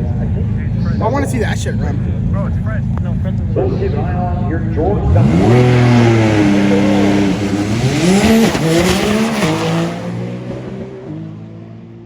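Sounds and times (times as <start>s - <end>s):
drag race car accelerating: 0.0s - 12.0s.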